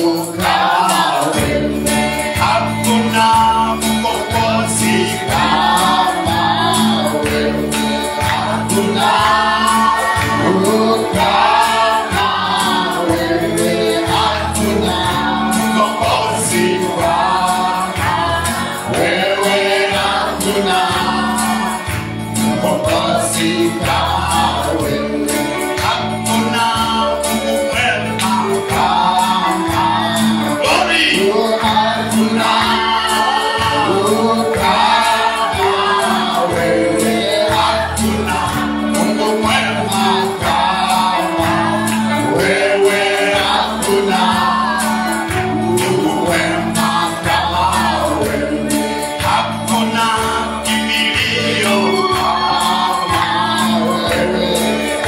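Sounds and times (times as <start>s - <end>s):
group of voices singing: 0.0s - 55.0s
instrumental backing with beat: 0.0s - 55.0s.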